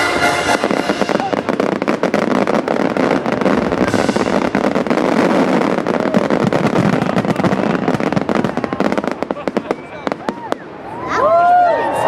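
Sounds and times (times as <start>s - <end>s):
fireworks crackling bangs: 0.0s - 11.0s.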